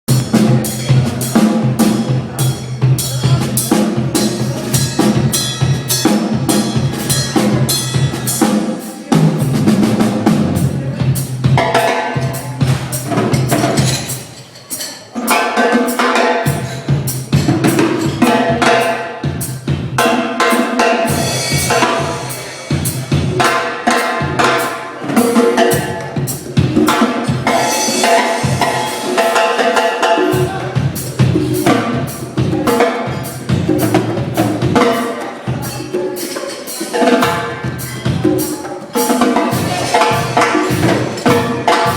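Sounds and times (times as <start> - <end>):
drum kit beat: 0.1 - 41.9
live band playing: 0.1 - 41.9.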